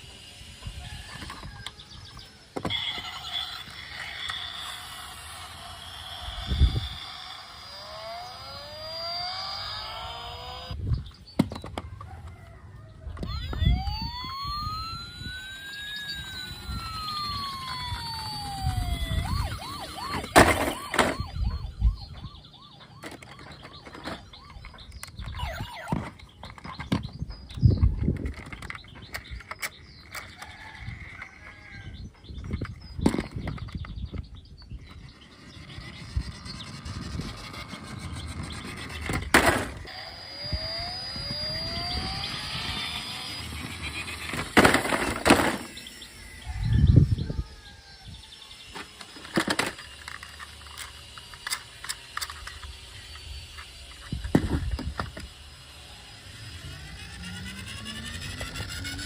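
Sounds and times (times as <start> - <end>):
toy siren wailing: 0.0 - 10.8, 12.0 - 59.0.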